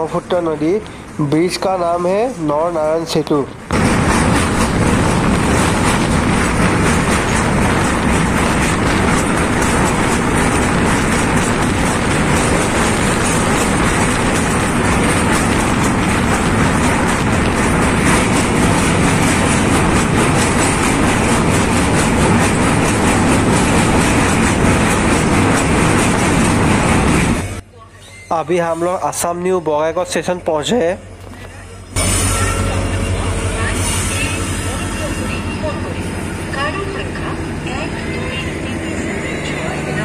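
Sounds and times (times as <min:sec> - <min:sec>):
train rumbling across bridge: 0:00.0 - 0:27.6, 0:29.0 - 0:40.0.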